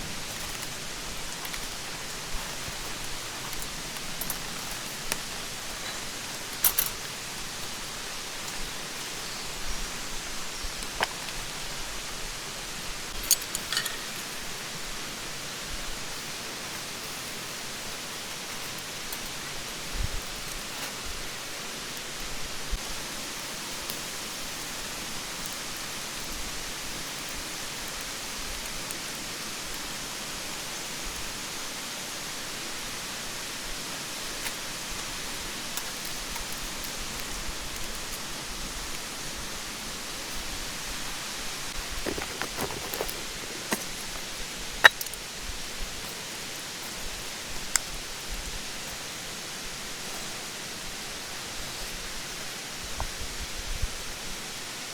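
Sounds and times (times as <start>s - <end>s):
mountain stream rushing: 0.0s - 54.9s.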